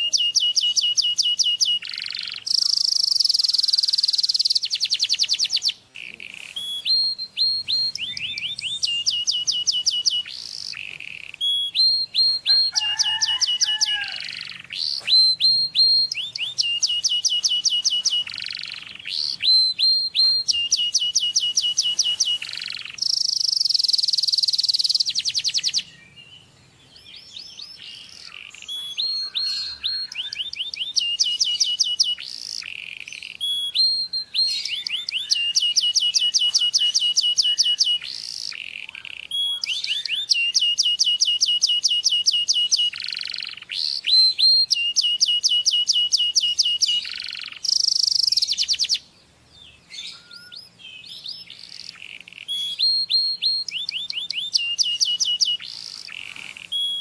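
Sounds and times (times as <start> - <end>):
canary singing fast trills: 0.0 - 57.0.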